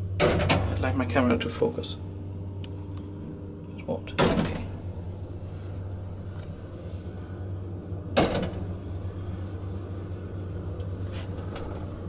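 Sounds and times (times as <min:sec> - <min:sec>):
elevator humming: 0:00.0 - 0:12.0.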